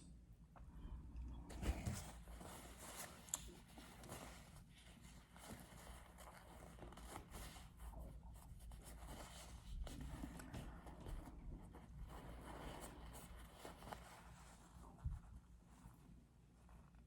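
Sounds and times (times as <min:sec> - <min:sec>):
low room hum: 0:00.0 - 0:17.0
scratching and rustling handling: 0:01.5 - 0:17.0.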